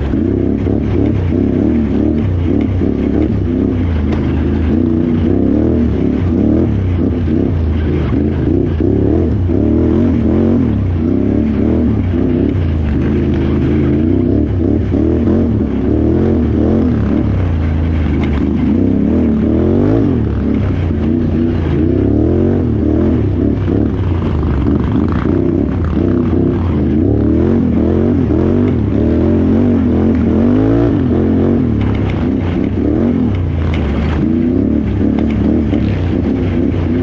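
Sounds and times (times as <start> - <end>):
quad engine revving: 0.0 - 37.0.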